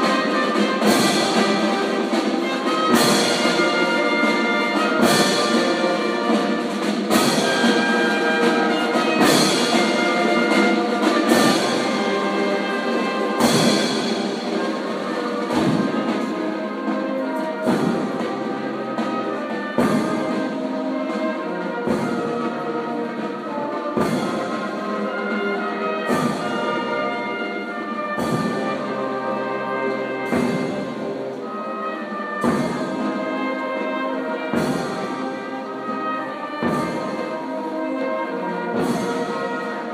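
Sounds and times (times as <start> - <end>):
drum accents: 0.0 - 27.1, 27.8 - 31.3, 32.4 - 39.8
marching band playing: 0.0 - 39.9.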